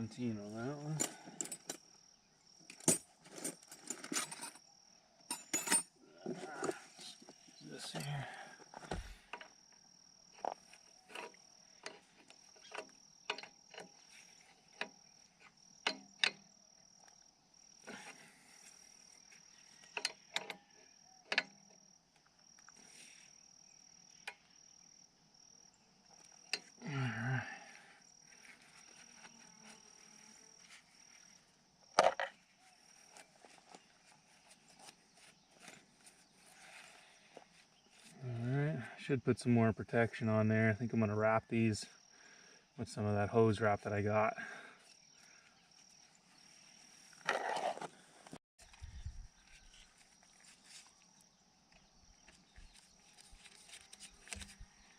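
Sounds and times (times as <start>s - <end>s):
insect chirping: 0.0s - 54.9s.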